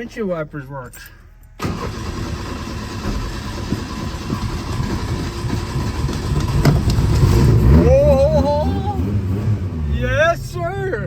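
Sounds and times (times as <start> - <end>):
car engine starting and running: 0.0 - 11.0.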